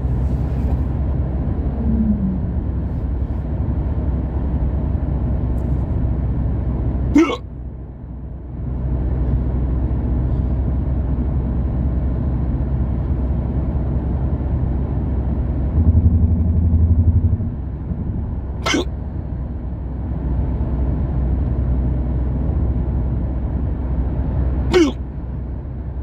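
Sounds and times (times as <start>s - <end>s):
car rumble from inside cabin: 0.0s - 26.0s.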